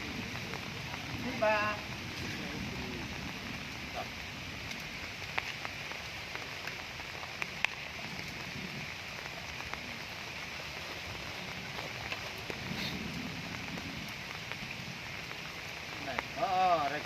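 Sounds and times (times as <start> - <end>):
sharp raindrop ticks: 0.0 - 17.0
steady rain falling: 0.0 - 17.0.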